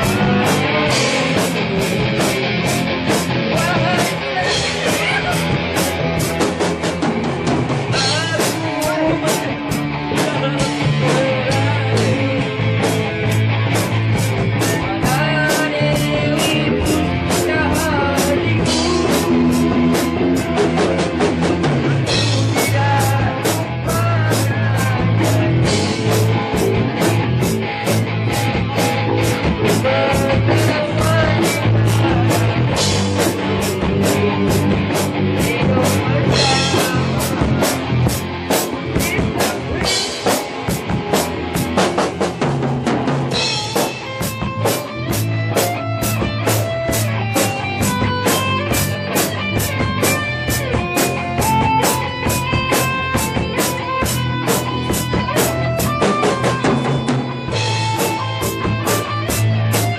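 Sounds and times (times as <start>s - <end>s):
drum kit beat: 0.0s - 59.9s
loud bass guitar: 0.0s - 59.9s.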